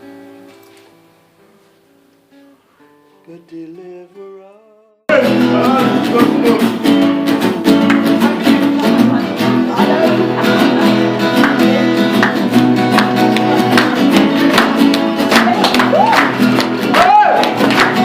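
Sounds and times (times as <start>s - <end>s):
acoustic guitar strumming chords: 2.3s - 18.0s.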